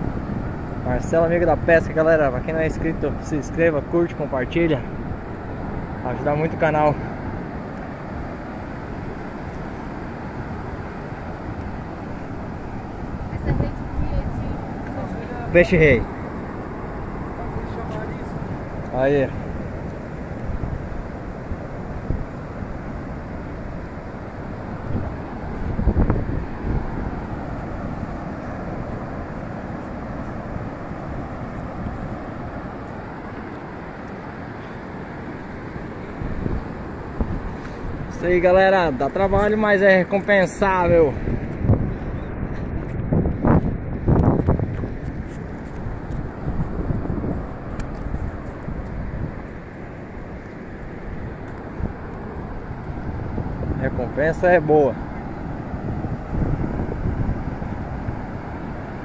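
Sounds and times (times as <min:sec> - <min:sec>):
ocean surf breaking: 0:00.0 - 0:59.0
wind on microphone: 0:00.0 - 0:59.0.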